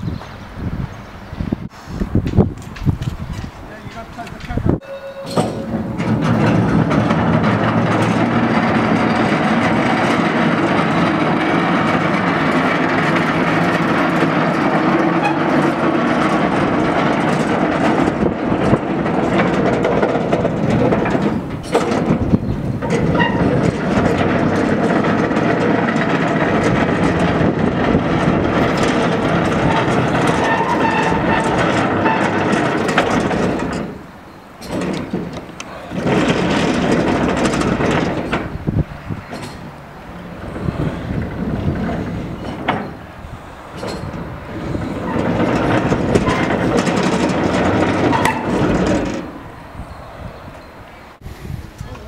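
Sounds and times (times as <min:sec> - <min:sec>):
steel wheels rumbling on rails: 0:00.0 - 0:52.0.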